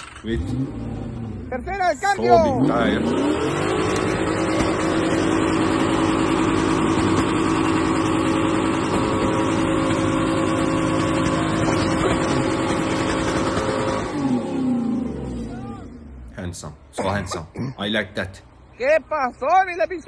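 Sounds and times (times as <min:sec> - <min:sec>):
truck engine climbing: 0:00.0 - 0:20.0.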